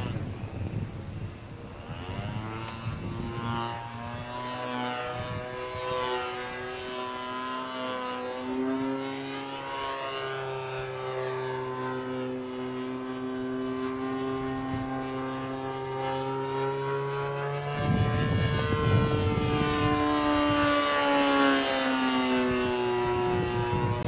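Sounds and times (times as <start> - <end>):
model plane engine drone: 0.0 - 24.0.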